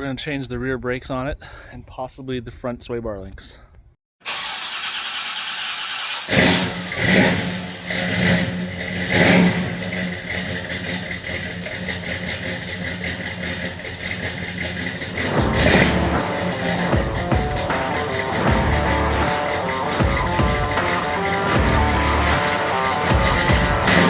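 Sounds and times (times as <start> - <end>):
car engine revving: 4.3 - 24.0.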